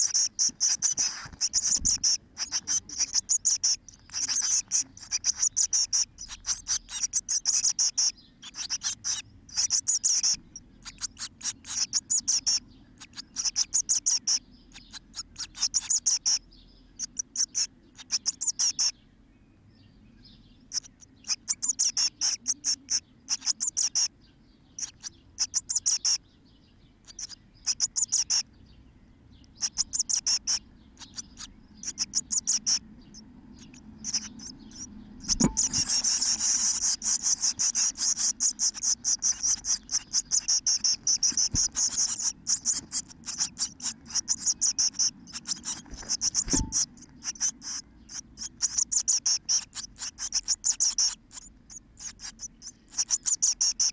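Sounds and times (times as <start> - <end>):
nestlings cheeping: 0.0 - 16.4, 17.0 - 18.9, 24.7 - 26.2, 27.0 - 28.4, 29.4 - 53.9.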